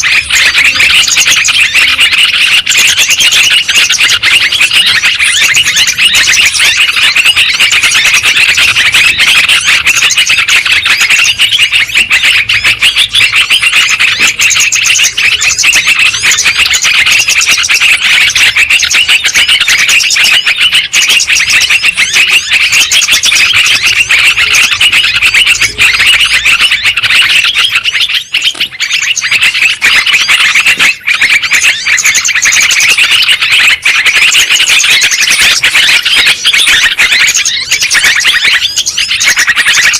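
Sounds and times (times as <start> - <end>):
birds chattering and chirping: 0.0 - 39.9.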